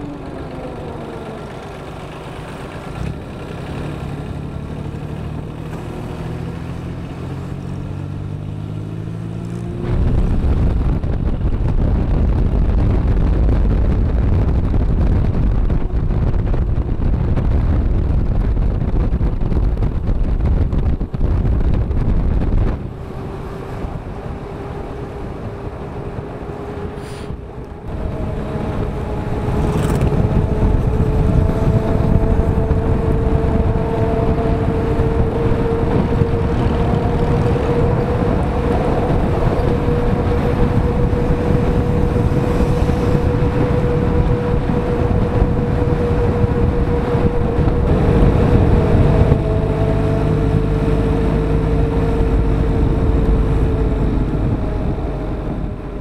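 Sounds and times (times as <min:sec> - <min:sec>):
motorcycle engine running: 0:00.0 - 0:56.0
wind rush: 0:00.0 - 0:56.0
steady whine: 0:09.8 - 0:56.0.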